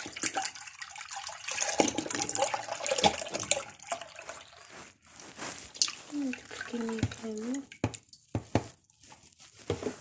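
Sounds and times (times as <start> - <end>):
milk pouring into a saucepan: 0.0 - 5.0, 5.7 - 9.2.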